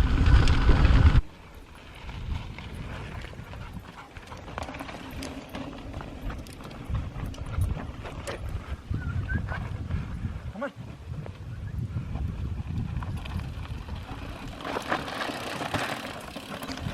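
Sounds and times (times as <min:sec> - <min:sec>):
footfalls on dirt trail: 0:00.0 - 0:16.9
loud wind and riding noise: 0:00.0 - 0:16.9.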